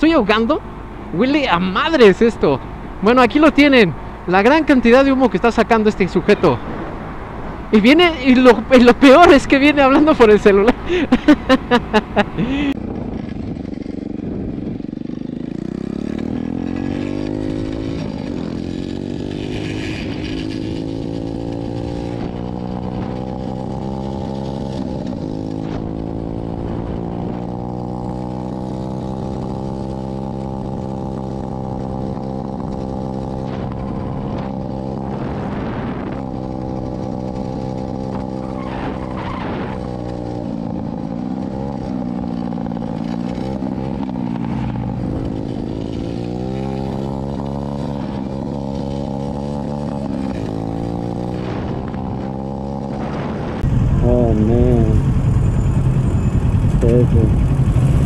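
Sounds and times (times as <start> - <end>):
dirt bike engine revving: 4.4 - 58.0.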